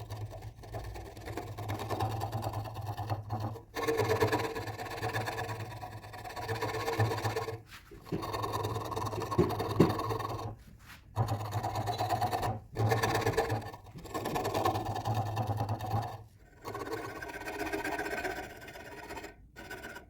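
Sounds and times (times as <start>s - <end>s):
tool scraping spinning wood: 0.0s - 20.0s.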